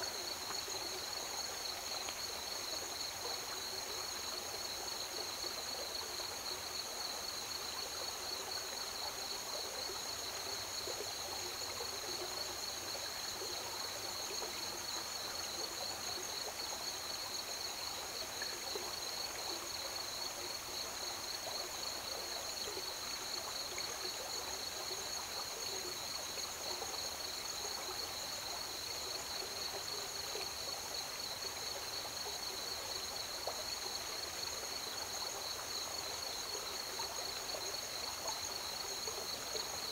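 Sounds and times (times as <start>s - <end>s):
crickets chirping: 0.0s - 39.9s
river water running: 0.0s - 39.9s.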